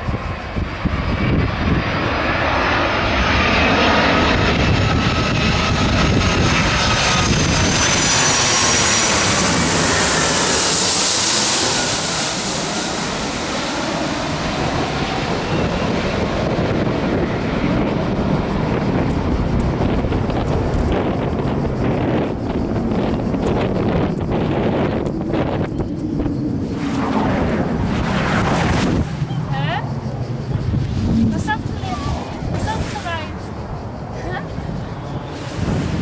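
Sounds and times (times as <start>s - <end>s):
aircraft engines passing overhead: 0.0s - 36.0s.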